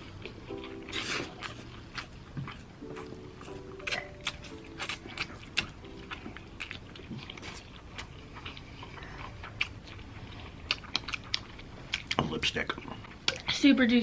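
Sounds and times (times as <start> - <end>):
chewing noodles: 0.0 - 13.6.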